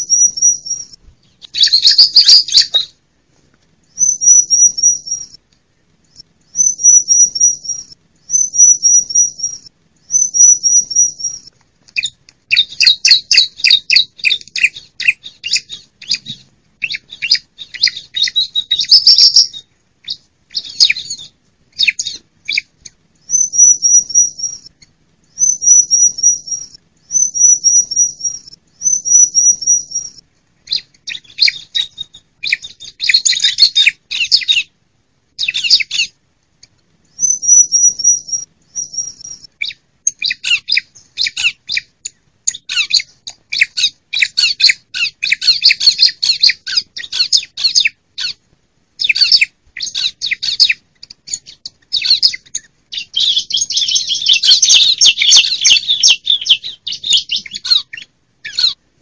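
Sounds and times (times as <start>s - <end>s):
birds chattering and calling: 0.0s - 3.0s, 3.9s - 5.4s, 6.0s - 34.8s, 35.4s - 48.4s, 49.0s - 59.0s.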